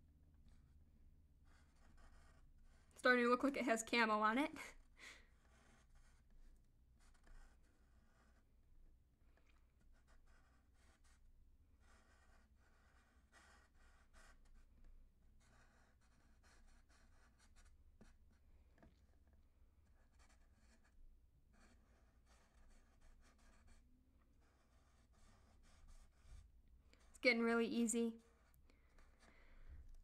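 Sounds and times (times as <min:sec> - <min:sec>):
marker scratching on paper: 0:01.5 - 0:04.2, 0:04.8 - 0:08.5, 0:09.7 - 0:14.8, 0:15.4 - 0:26.4, 0:27.0 - 0:29.3.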